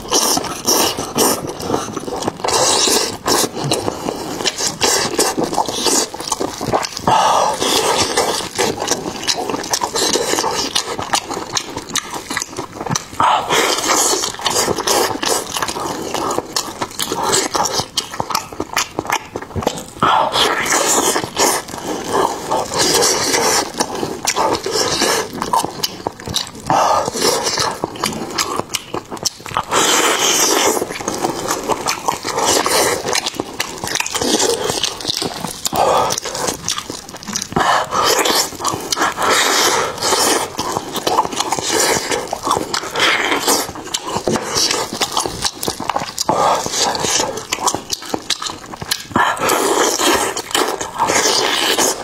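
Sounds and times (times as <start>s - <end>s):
wet chewing and mouth noises: 0.0s - 52.0s.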